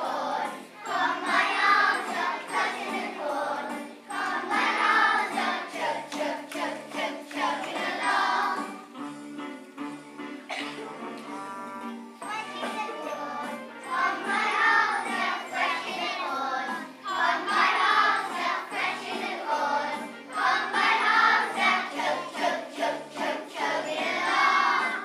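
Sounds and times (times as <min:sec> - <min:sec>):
children singing: 0:00.0 - 0:09.0, 0:12.2 - 0:25.0
musical accompaniment: 0:00.0 - 0:25.0.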